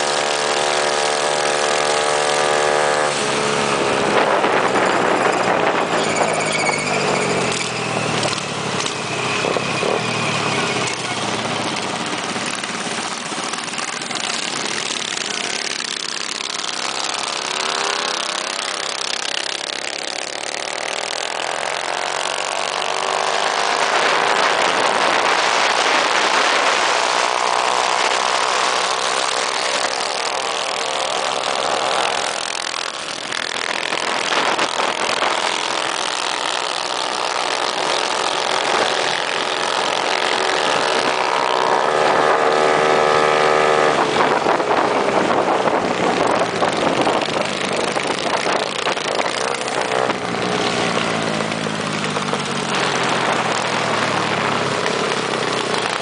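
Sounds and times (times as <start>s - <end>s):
minibike engines racing: 0.0s - 56.0s.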